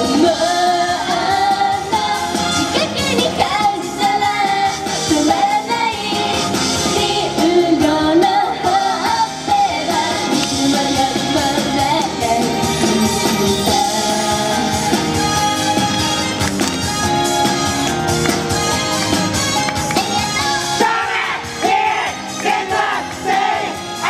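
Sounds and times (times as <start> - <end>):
women singing pop song: 0.0 - 16.9, 20.0 - 24.0
upbeat pop accompaniment: 0.0 - 24.0.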